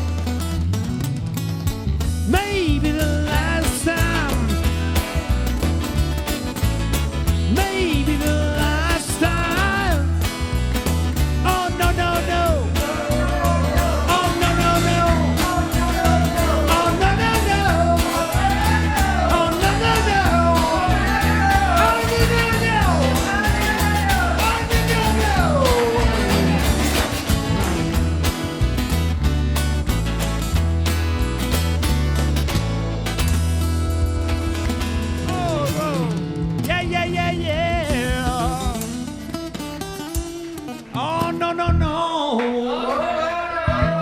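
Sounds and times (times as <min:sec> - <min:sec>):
live rock band playing: 0:00.0 - 0:41.3.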